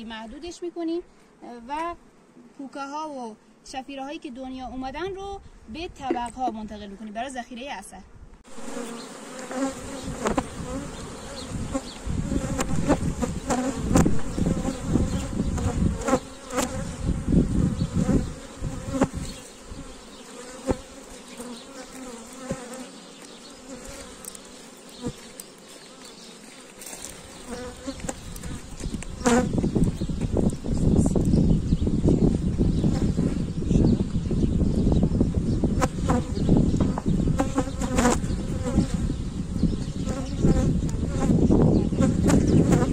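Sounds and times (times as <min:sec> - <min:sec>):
bees buzzing: 0:08.5 - 0:42.9.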